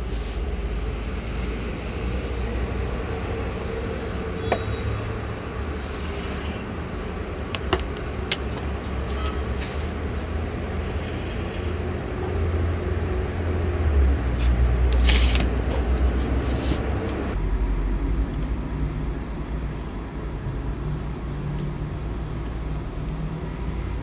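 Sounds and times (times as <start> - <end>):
road vehicle rumble: 0.0 - 24.0.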